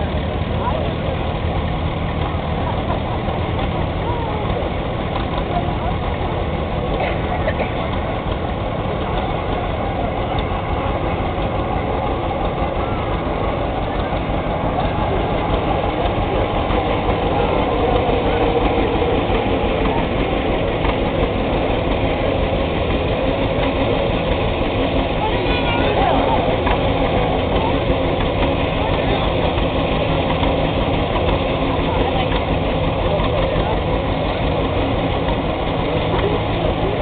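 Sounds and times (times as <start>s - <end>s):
tractor engines rumbling: 0.0s - 37.0s.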